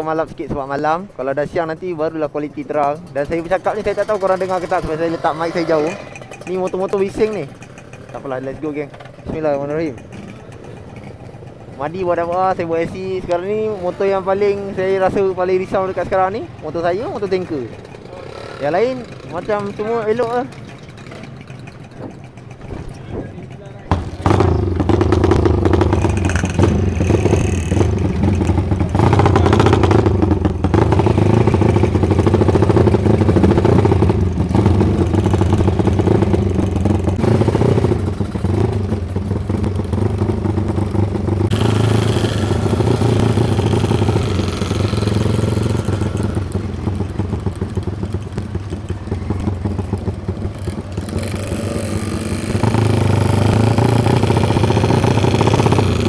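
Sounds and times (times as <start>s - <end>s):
motorcycle engine running: 0.0s - 56.0s
other motorcycles: 0.0s - 56.0s.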